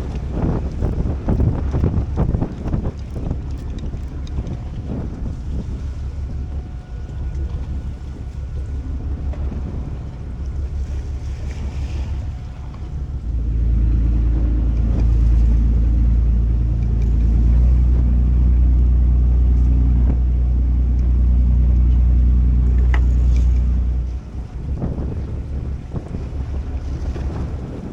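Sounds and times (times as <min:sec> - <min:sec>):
boat engine droning: 0:00.0 - 0:27.9
wind buffeting microphone: 0:00.0 - 0:27.9.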